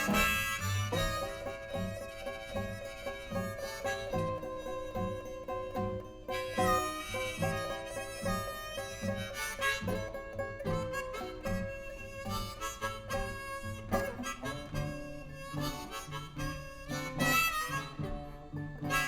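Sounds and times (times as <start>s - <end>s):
blues harmonica: 0.0s - 19.0s.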